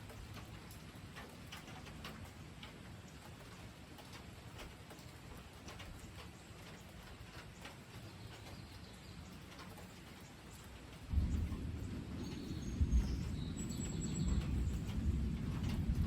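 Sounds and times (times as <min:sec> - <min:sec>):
light rain: 0:00.0 - 0:16.0.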